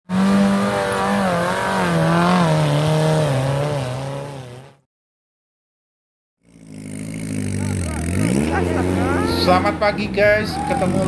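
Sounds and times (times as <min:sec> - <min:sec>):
vehicle engine at high revs: 0:00.0 - 0:04.9, 0:06.4 - 0:11.0.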